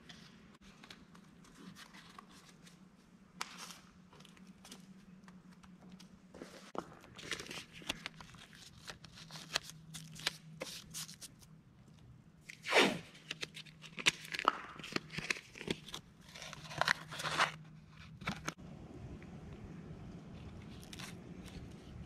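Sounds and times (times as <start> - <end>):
tape crackling and crinkling: 0.0 - 18.6, 20.3 - 22.0.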